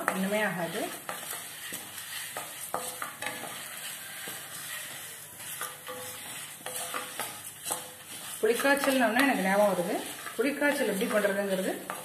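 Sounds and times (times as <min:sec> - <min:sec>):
spatula scraping a pan: 0:00.0 - 0:12.0
spices sizzling in oil: 0:00.0 - 0:12.0.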